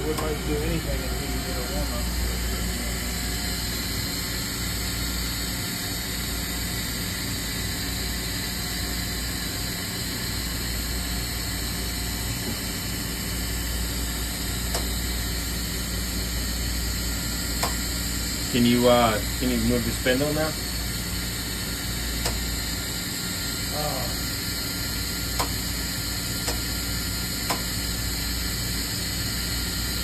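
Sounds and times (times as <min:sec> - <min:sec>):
machining center humming: 0:00.0 - 0:30.0.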